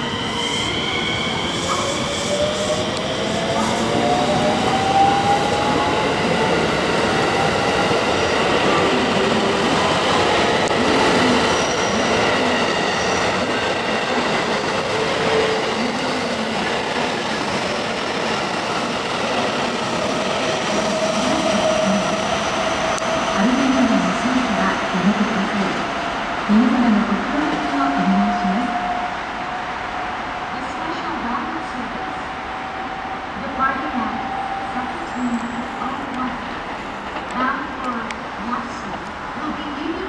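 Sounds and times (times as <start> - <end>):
train rolling on rails: 0.0 - 40.0.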